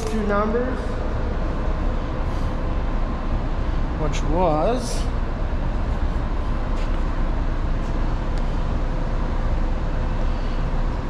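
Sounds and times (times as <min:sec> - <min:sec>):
faint hum: 0:00.0 - 0:11.0
running machinery rumble: 0:00.0 - 0:11.0.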